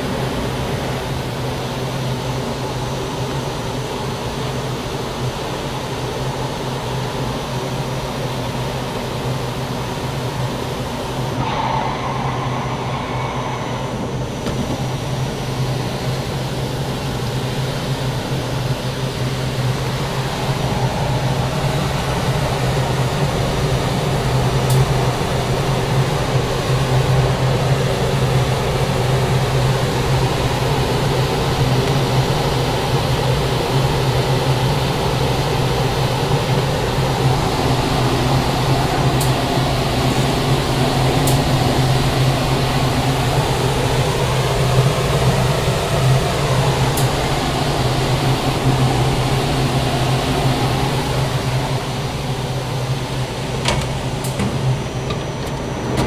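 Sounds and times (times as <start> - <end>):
ventilation fan running: 0.0 - 56.0.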